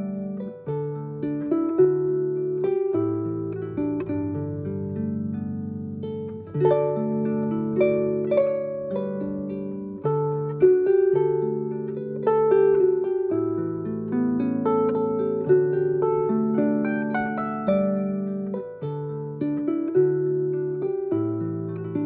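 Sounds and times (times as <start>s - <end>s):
plucked string instrument music: 0.0s - 22.0s.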